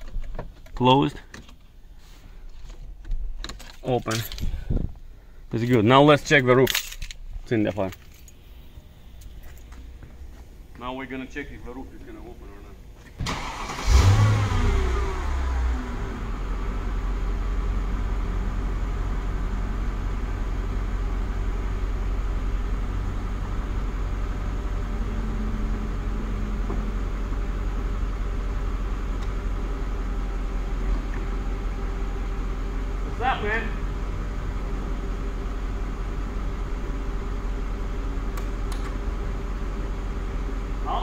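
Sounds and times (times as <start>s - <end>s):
car engine starting and idling: 2.4s - 41.0s.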